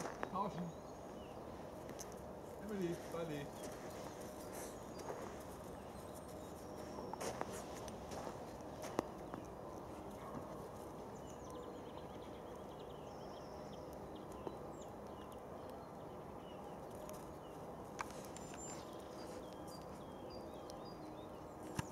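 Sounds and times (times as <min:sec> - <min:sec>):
faint bird chirps: 0:00.0 - 0:21.9.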